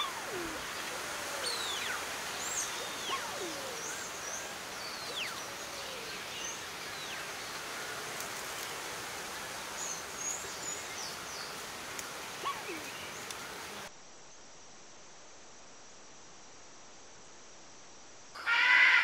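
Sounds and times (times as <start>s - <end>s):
steady hiss: 0.0s - 18.5s.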